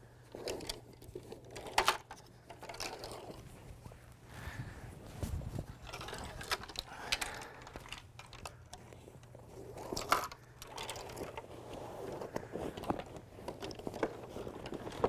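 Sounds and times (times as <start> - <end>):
cloth bags rustling: 2.3 - 15.0.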